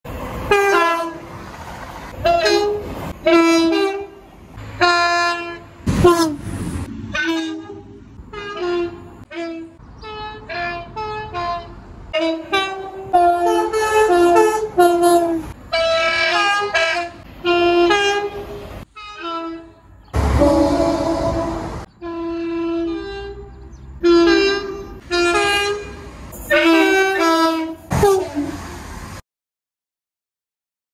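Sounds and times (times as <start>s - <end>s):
low train rumble: 0.1s - 29.2s
two-tone train horn blasts: 0.4s - 1.4s, 2.1s - 28.8s.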